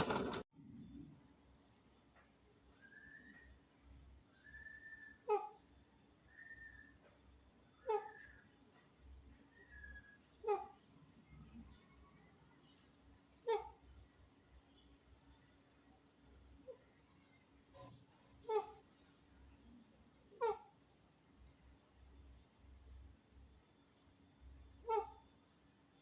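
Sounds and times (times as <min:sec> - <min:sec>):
high cricket-like trill: 0:00.0 - 0:26.0.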